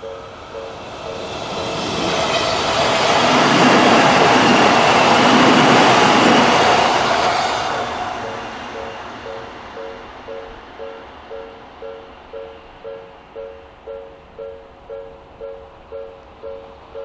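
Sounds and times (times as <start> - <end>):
train passing: 0.0 - 17.0
two-tone crossing warning bell: 0.0 - 17.0.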